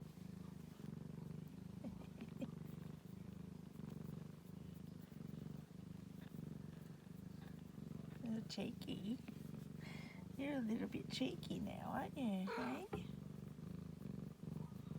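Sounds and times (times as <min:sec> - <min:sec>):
cat purring: 0:00.0 - 0:14.9.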